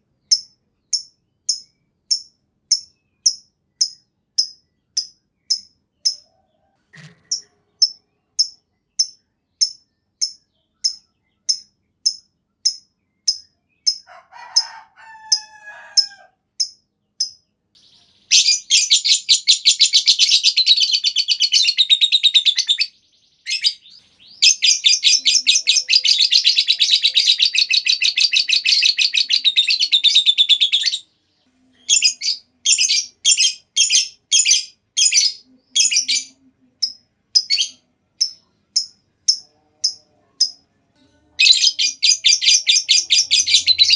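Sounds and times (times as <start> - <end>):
lovebird chirping and trilling: 0.3 - 6.3, 7.0 - 31.0, 31.8 - 40.7, 41.4 - 43.9.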